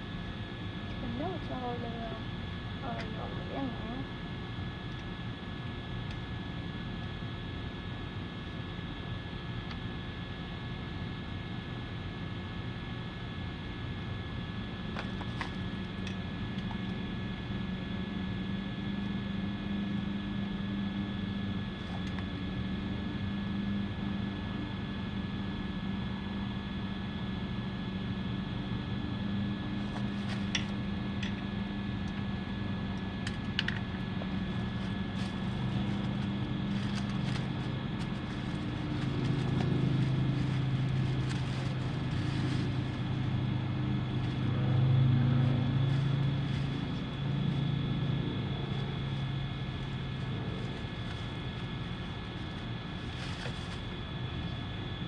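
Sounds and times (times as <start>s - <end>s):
motor running steadily: 0.0s - 55.0s.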